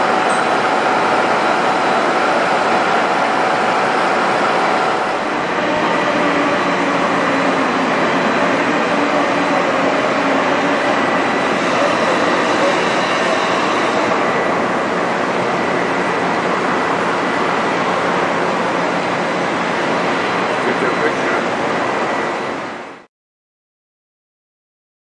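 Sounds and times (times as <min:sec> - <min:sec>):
crane mechanical noise: 0:00.0 - 0:23.1.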